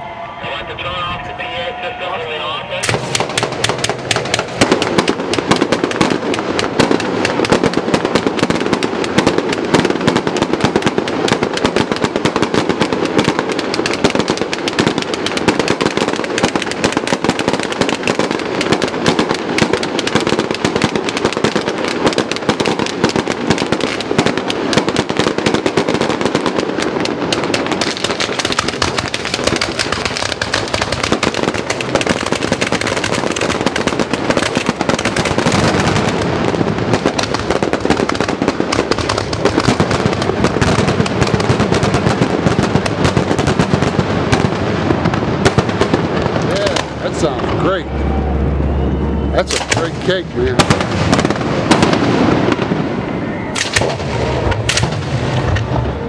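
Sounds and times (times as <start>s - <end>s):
fireworks barrage: 0.0s - 56.0s.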